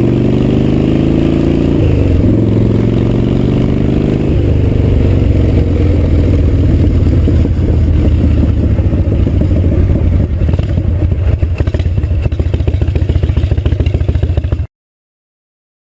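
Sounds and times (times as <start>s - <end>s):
motorcycle engine running loud: 0.0s - 14.7s.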